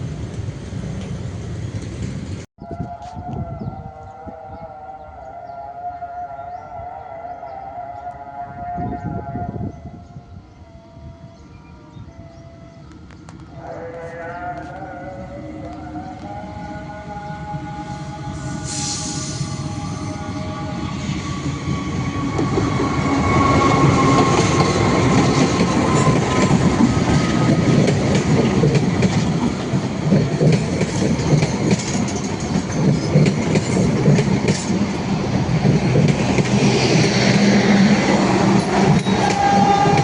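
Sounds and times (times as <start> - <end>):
train passing: 0.0 - 2.5, 6.8 - 40.0.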